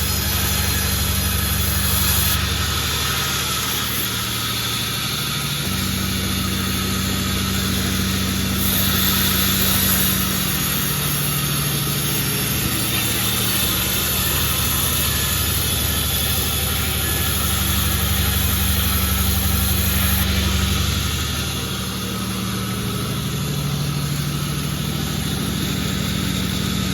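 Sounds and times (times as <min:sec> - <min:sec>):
machinery hiss: 0:00.0 - 0:26.9
sawmill machinery hum: 0:00.0 - 0:26.9.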